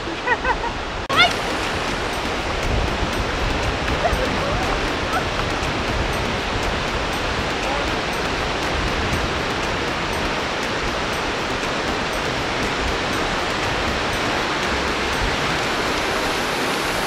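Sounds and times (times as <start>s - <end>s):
surf breaking on beach: 1.1s - 17.0s.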